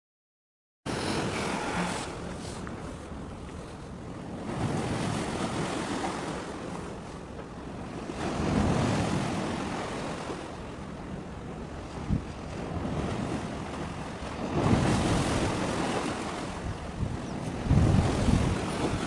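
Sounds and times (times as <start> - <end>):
sea rushing: 0.9 - 19.0
wind buffeting microphone: 0.9 - 19.0.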